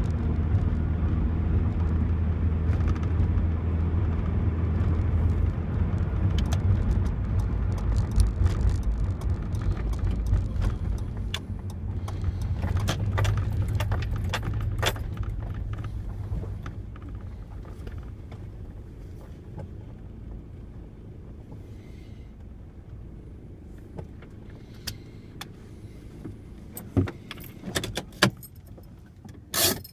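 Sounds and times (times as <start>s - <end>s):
truck engine and road rumble: 0.0s - 29.9s.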